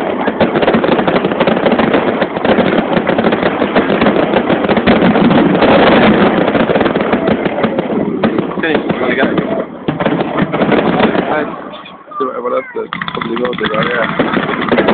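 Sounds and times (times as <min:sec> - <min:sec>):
fireworks crackling and popping: 0:00.0 - 0:14.9.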